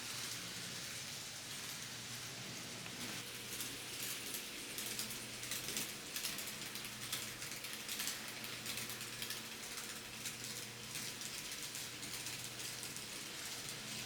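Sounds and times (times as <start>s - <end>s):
faint motor hum: 0.0s - 14.0s.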